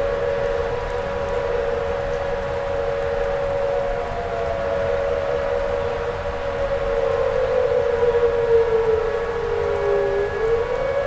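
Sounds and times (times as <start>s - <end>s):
steady warning siren tone: 0.0s - 11.0s.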